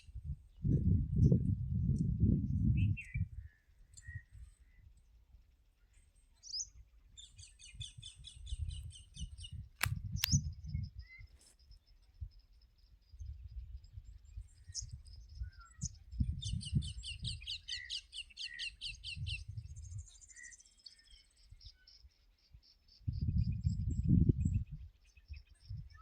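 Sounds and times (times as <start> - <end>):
faint high-pitched chirping: 0.0 - 26.0.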